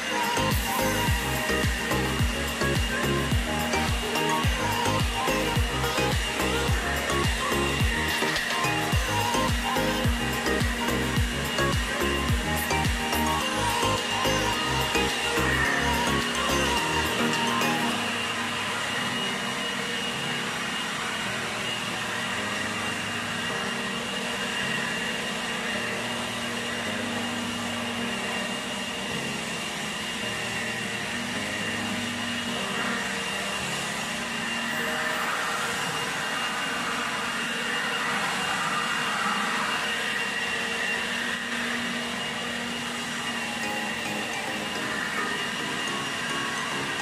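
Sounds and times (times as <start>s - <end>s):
leaf blower whining: 0.0s - 47.0s.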